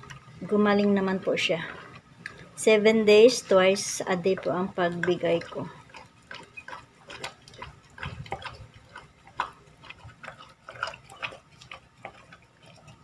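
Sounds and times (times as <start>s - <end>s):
dog chewing wet food: 1.6s - 2.6s, 3.2s - 13.0s.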